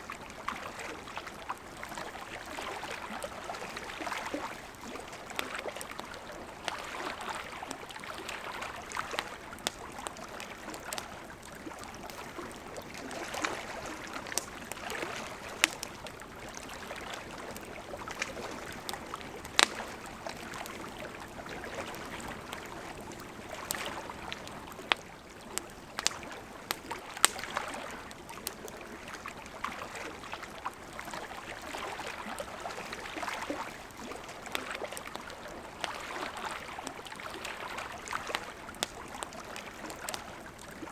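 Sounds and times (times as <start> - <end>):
river flowing: 0.0 - 40.9
campfire crackling and popping: 0.2 - 40.9.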